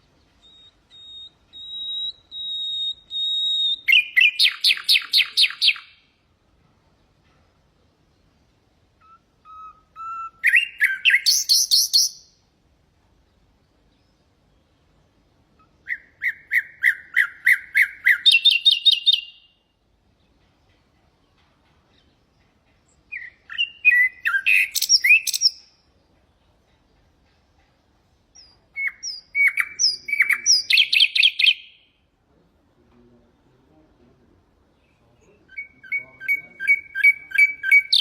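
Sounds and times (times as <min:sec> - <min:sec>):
nightingale singing: 0:00.0 - 0:06.3, 0:06.9 - 0:12.6, 0:13.2 - 0:32.2, 0:34.6 - 0:38.0.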